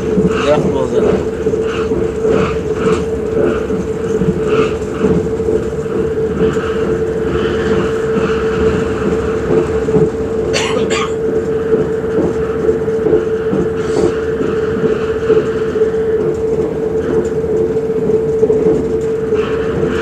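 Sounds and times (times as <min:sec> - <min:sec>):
train running noise: 0:00.0 - 0:20.0
wheels clicking over rails: 0:00.0 - 0:20.0.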